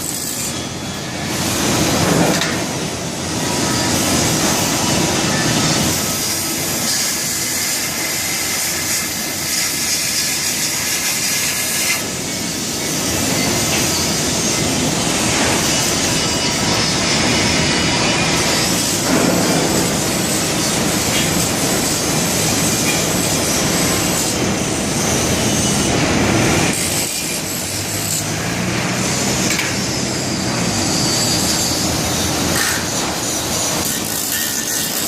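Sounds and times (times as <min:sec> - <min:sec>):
industrial machinery noise: 0:00.0 - 0:35.0.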